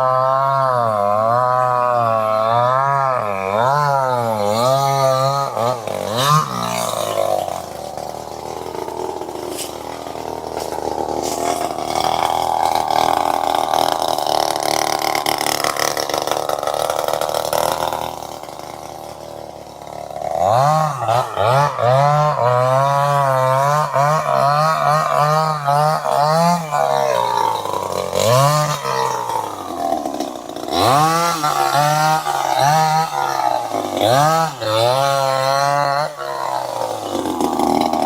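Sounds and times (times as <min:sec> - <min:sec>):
chainsaw engine revving: 0:00.0 - 0:38.0.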